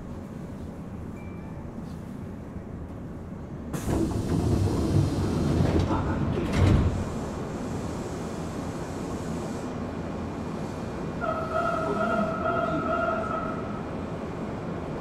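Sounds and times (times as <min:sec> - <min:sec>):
train rushing and rattling: 0:01.9 - 0:15.0
train running rumble: 0:02.0 - 0:15.0.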